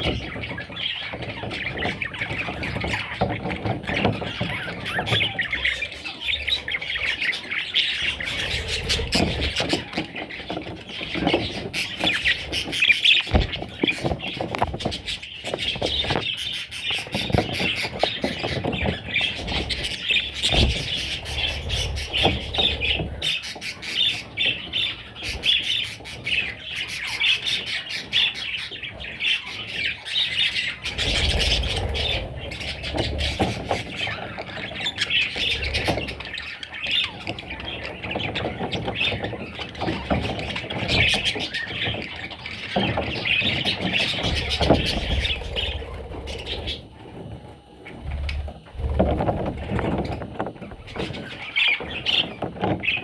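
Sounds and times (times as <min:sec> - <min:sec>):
budgerigars chattering and squawking: 0:00.0 - 0:53.0.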